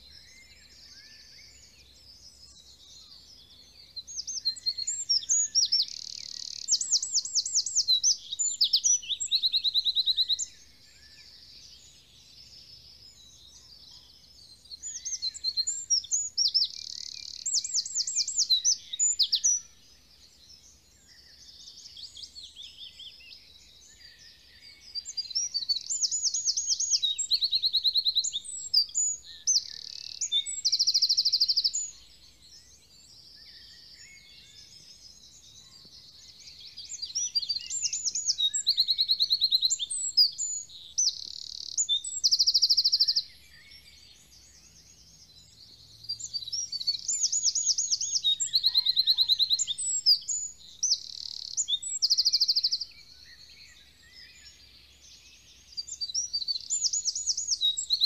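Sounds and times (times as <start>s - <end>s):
songbird singing trills: 0.0s - 58.0s.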